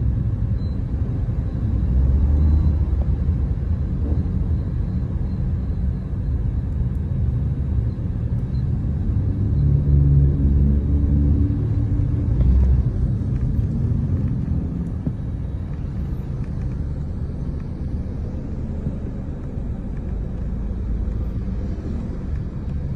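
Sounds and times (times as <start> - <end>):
car engines: 0.0 - 22.9
deep engine drone: 0.0 - 22.9
low road rumble: 0.0 - 22.9.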